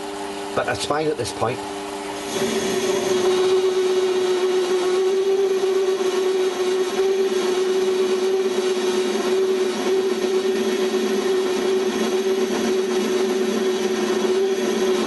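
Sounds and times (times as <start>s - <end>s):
tool chattering whine: 0.0s - 15.0s
metal lathe cutting: 2.2s - 15.0s.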